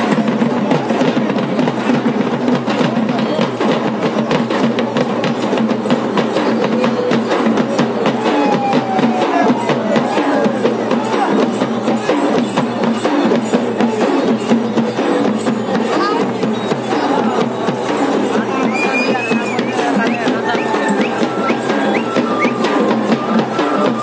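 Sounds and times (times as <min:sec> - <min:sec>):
drums beating rapid rhythm: 0:00.0 - 0:24.0.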